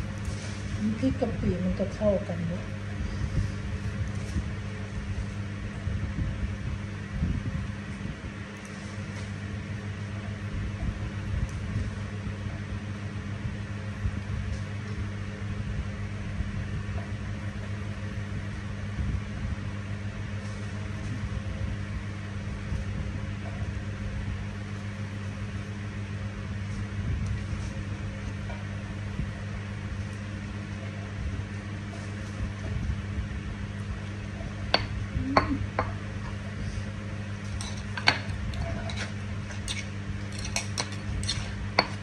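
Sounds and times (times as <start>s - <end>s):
low electrical hum: 0.0s - 42.0s.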